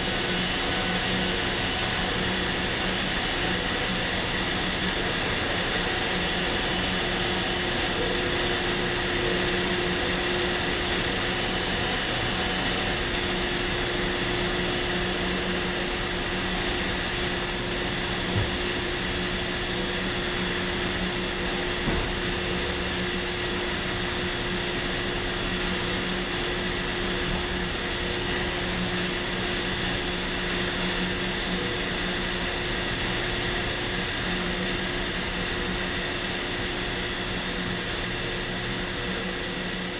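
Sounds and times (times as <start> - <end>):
industrial machine drone: 0.0 - 39.9.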